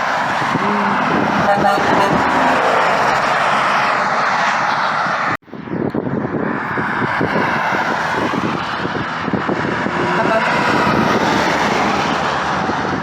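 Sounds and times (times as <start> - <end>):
highway traffic rushing past: 0.0 - 13.0.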